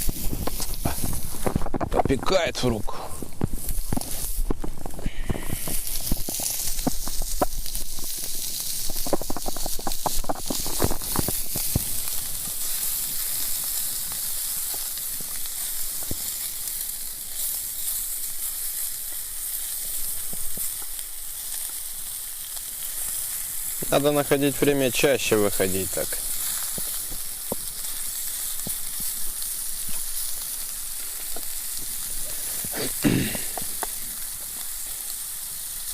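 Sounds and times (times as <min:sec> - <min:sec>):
food sizzling in frying pan: 0:00.0 - 0:35.9
oil popping and crackling: 0:00.0 - 0:35.9.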